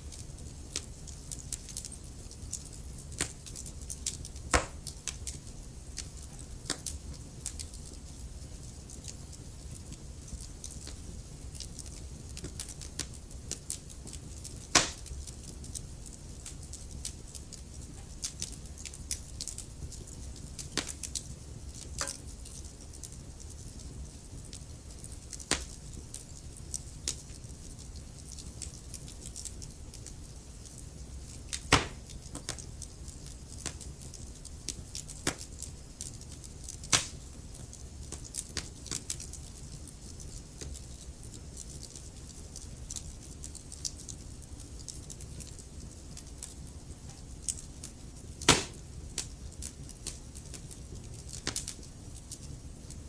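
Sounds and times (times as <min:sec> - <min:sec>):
fire crackling and popping: 0:00.0 - 0:53.0
low rumble of flames: 0:00.0 - 0:53.0.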